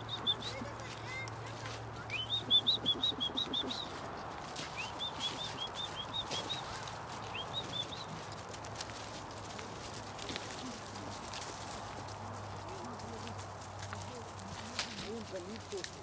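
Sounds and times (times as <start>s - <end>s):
footsteps rustling in leaf litter: 0.0s - 16.0s
songbird chirping: 0.0s - 16.0s.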